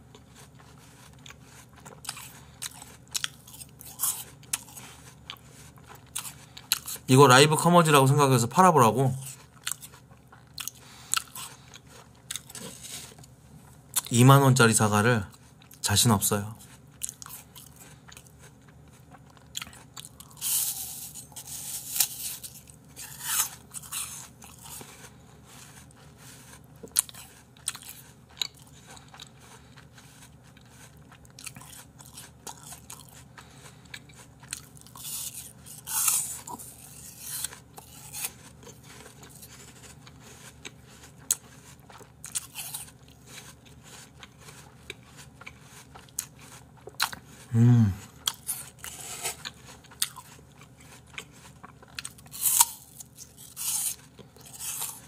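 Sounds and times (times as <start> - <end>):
quiet chewing: 0.0 - 7.1, 9.1 - 14.1, 15.2 - 55.0
crunching apple: 0.0 - 7.9, 9.1 - 14.2, 16.6 - 47.3, 48.0 - 55.0.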